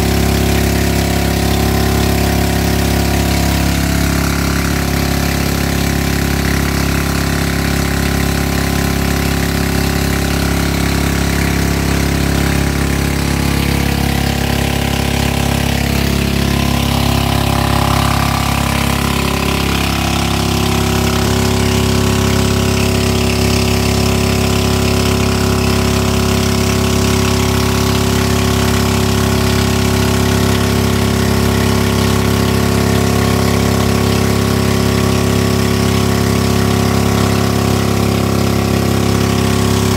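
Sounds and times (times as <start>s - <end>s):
small boat engine running: 0.0s - 39.9s.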